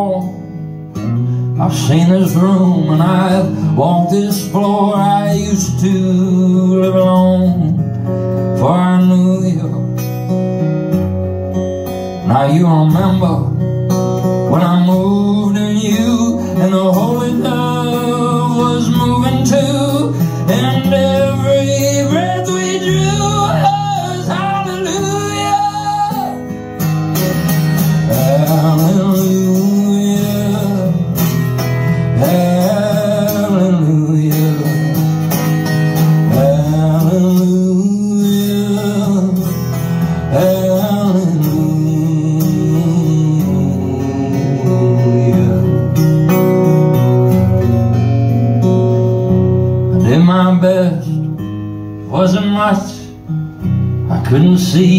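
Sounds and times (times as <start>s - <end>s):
man singing: 0.0s - 10.0s, 12.2s - 26.6s, 28.0s - 35.3s, 35.9s - 46.4s, 49.9s - 53.4s, 54.0s - 54.9s
strummed acoustic guitar: 0.0s - 54.9s.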